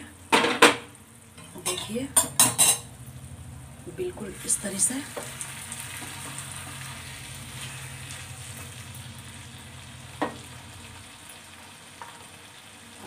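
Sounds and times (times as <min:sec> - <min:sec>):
gravy sizzling in a pan: 0:00.0 - 0:13.0.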